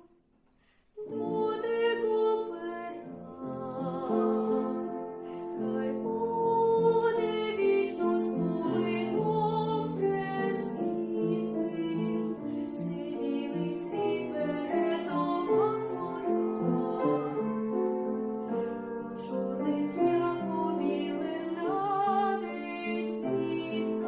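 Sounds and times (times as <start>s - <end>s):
woman singing: 1.0s - 5.0s, 5.6s - 17.4s, 19.0s - 24.0s.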